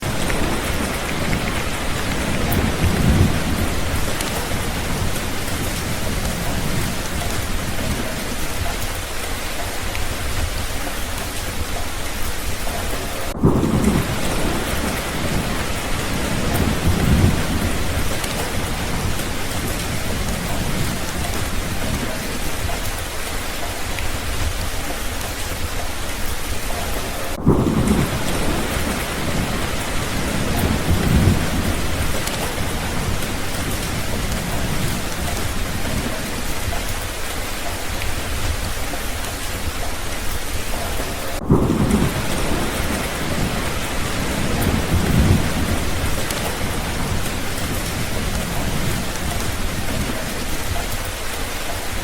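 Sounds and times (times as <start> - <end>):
steady rain falling: 0.0 - 52.0
thunder rolling: 0.0 - 52.0.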